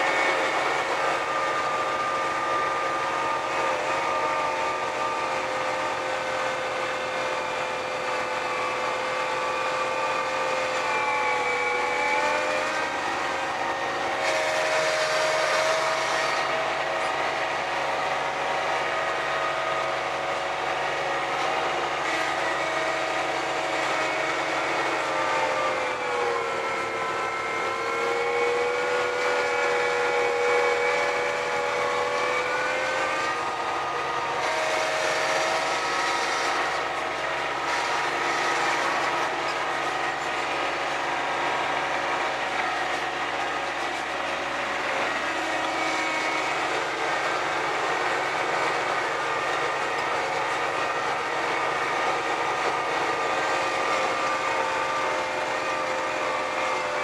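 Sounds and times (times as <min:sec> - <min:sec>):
snowblower whine: 0:00.0 - 0:57.0
tractor engine running: 0:00.0 - 0:57.0.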